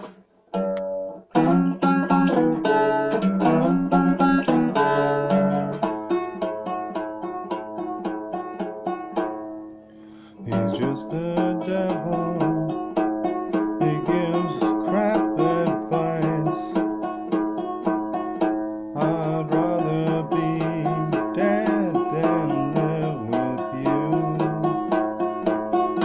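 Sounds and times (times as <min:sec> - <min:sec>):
plucked banjo-like music: 0:00.0 - 0:26.0.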